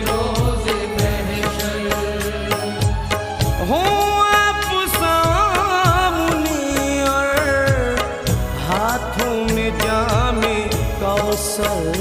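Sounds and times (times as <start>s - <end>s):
steady drumbeat: 0.0s - 12.0s.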